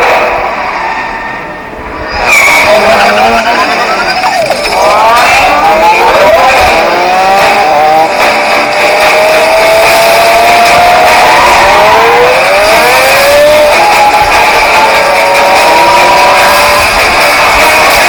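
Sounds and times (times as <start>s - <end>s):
sports car engine revving: 2.1s - 18.0s.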